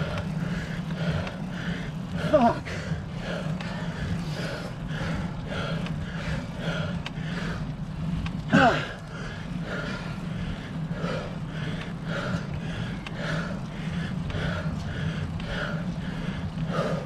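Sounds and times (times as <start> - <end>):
person panting hard: 0.0 - 17.0.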